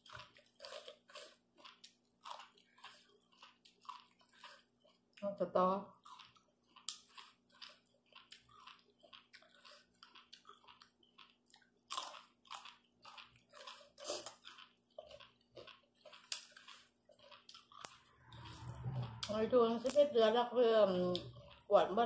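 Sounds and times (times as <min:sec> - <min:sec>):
person chewing crunchy food: 0:00.0 - 0:05.3, 0:05.9 - 0:22.0.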